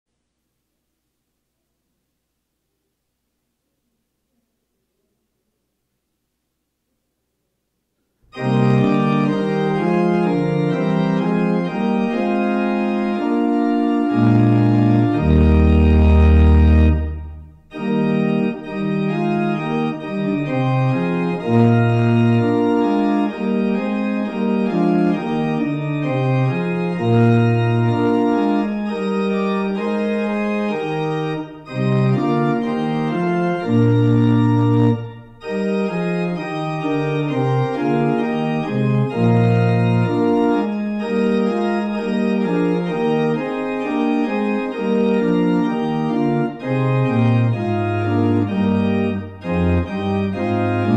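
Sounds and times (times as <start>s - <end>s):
deep low organ pedal note: 8.3s - 50.9s
organ playing sustained chords: 8.3s - 50.9s.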